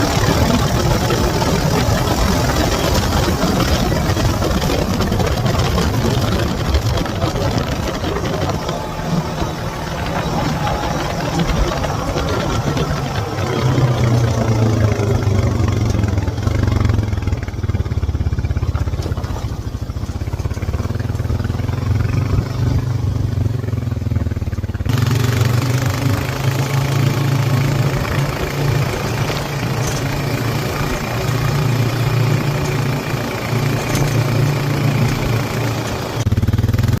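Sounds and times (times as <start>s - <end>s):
quad bike engine running: 0.0s - 37.0s.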